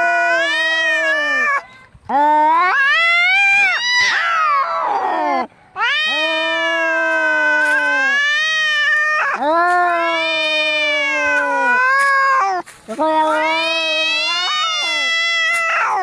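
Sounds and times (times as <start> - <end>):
angry cat yowling: 0.0 - 1.6, 2.4 - 16.0.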